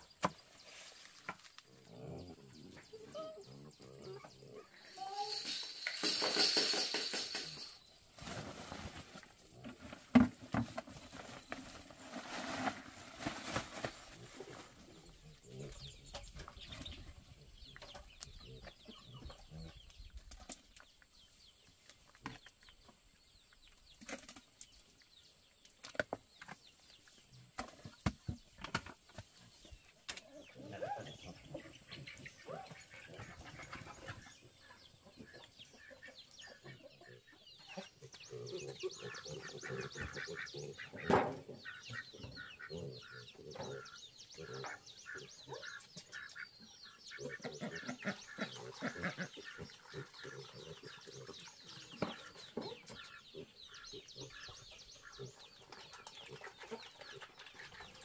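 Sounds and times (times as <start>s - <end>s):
chickens clucking: 0.2s - 21.4s, 25.9s - 58.0s.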